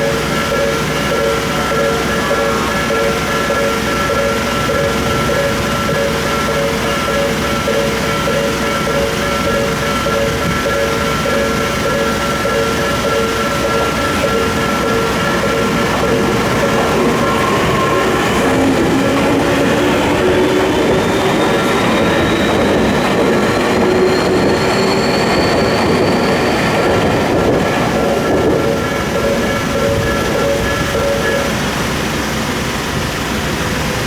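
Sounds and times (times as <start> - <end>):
crossing bell tones: 0.0 - 34.0
train motor whine: 0.0 - 34.0
train wheels clattering on track: 0.0 - 34.0.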